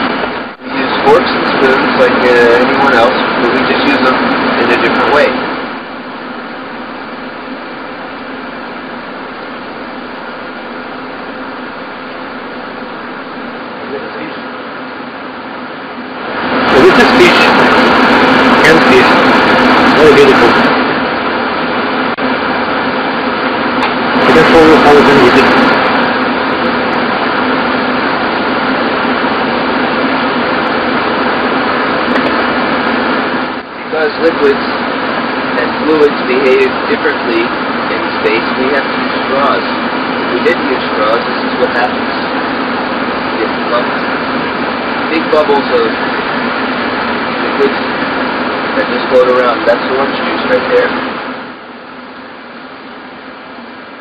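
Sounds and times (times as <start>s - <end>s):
rushing ventilation fans: 0.0s - 54.0s.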